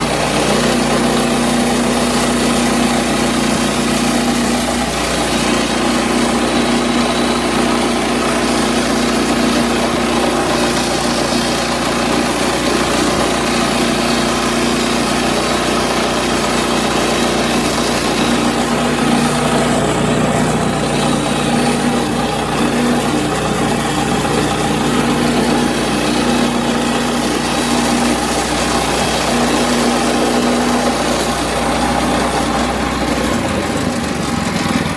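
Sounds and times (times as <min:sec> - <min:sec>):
band blade sawing lumber: 0:00.0 - 0:34.9
small gasoline engine running: 0:00.0 - 0:34.9.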